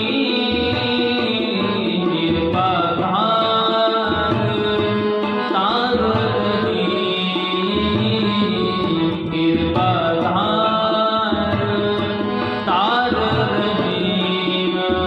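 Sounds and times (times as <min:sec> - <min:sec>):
harmonium drone: 0:00.0 - 0:15.0
person singing: 0:00.0 - 0:15.0
tabla rhythm: 0:00.0 - 0:15.0.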